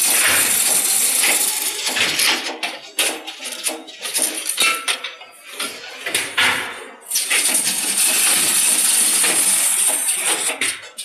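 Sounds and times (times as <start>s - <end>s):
metal rods clattering on steel: 0.0s - 11.0s.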